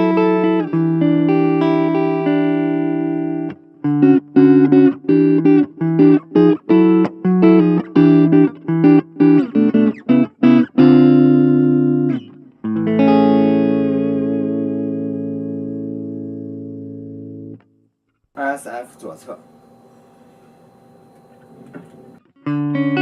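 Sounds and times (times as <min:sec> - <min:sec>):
clean electric guitar chords: 0:00.0 - 0:17.7, 0:18.8 - 0:23.0.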